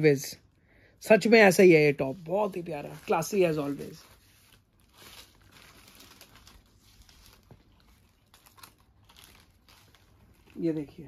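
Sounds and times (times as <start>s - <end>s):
rustling and crinkling of packaging: 1.1s - 11.0s.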